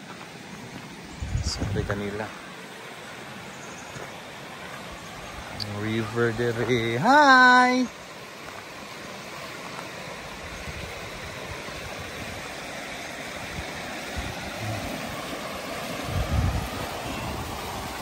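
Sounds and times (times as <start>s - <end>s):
water rushing over weir: 0.0s - 18.0s.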